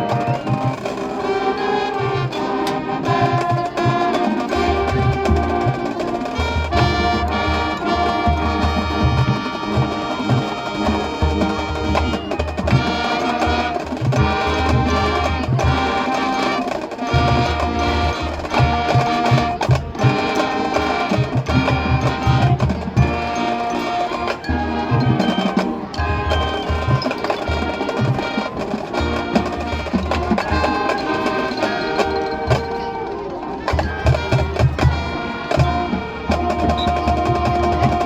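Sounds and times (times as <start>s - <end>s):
brass chords: 0.0s - 38.0s
marching drums: 0.0s - 38.0s.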